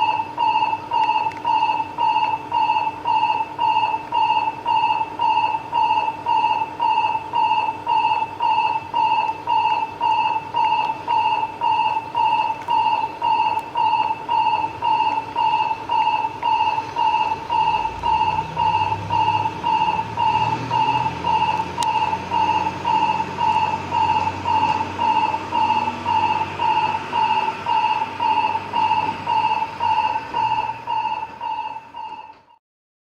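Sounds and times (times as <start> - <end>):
electronic warning tone beeping: 0.0 - 32.6
low hum: 0.0 - 32.6.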